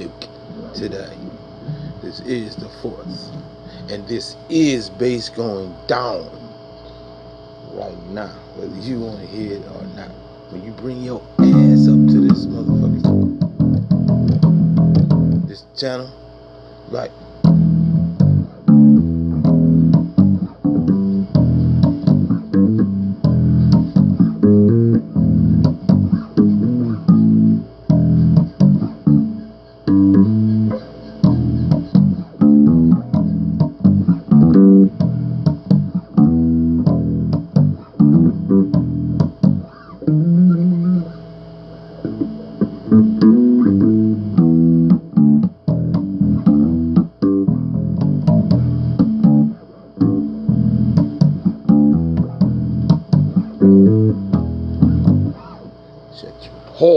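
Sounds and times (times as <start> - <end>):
electric bass guitar riffing: 0.0 - 6.6, 7.6 - 16.1, 16.9 - 55.9.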